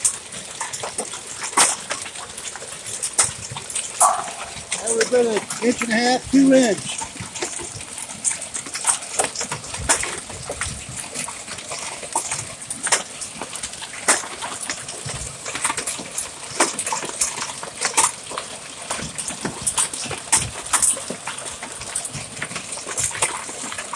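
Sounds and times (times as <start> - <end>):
hailstones pelting hard surfaces: 0.0 - 23.9.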